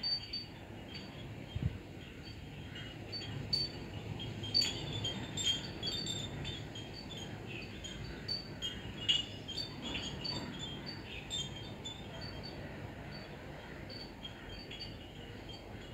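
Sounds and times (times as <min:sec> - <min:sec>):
pottery wind chimes tinkling: 0:00.0 - 0:15.9.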